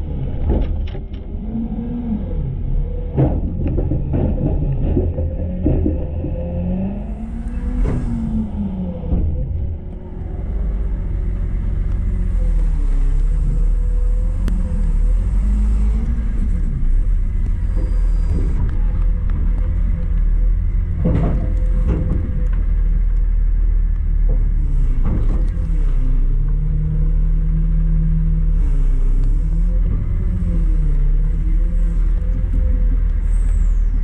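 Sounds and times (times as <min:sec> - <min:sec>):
truck body clanks and rattles: 0:00.0 - 0:01.4, 0:02.9 - 0:26.7, 0:29.4 - 0:34.0
truck engine low rumble: 0:00.0 - 0:34.0.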